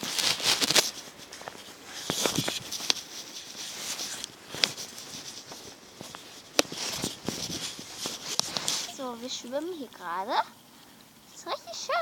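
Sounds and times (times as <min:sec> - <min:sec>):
footsteps on rocks and weeds: 0:00.0 - 0:09.9.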